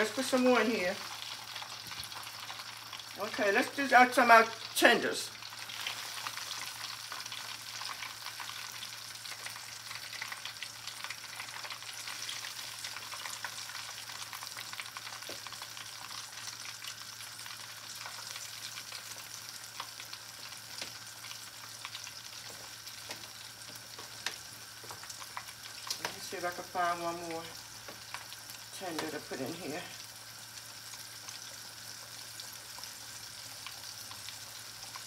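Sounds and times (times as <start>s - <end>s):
oil sizzling and crackling: 0.0s - 35.0s.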